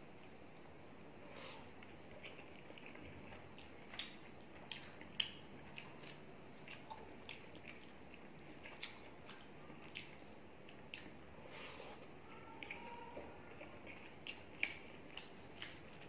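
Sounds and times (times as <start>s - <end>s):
wet chewing smacks and clicks: 1.8s - 11.3s, 11.9s - 16.0s.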